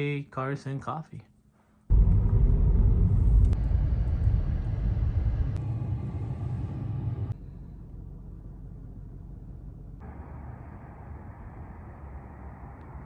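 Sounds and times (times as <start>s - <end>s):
car engine and exhaust rumbling: 1.9s - 13.0s.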